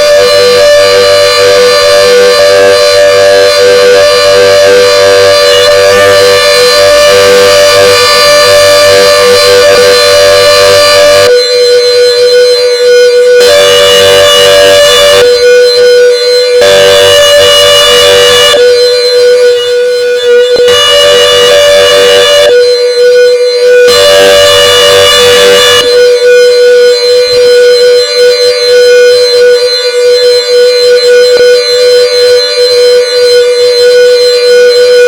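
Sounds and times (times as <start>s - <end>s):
loud siren: 0.0s - 35.0s.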